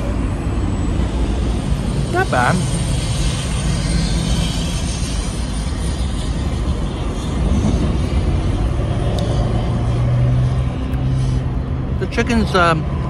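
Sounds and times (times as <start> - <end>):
aircraft engine drone: 0.0 - 13.0
traffic rumble: 0.0 - 13.0.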